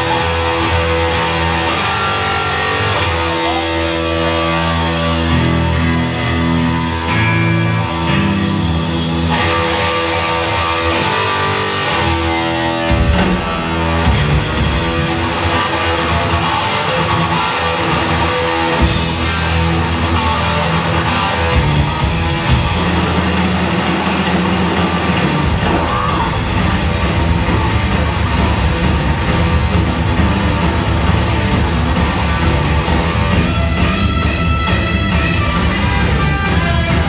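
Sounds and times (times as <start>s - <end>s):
heavy metal band playing live: 0.0s - 37.0s.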